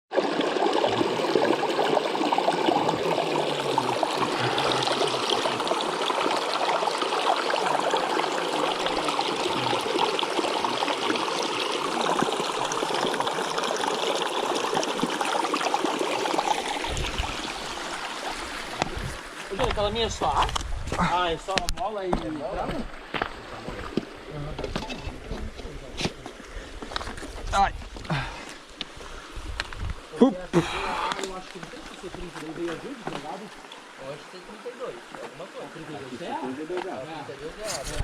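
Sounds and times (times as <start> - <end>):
stream water babbling: 0.1 - 20.4, 21.1 - 38.0.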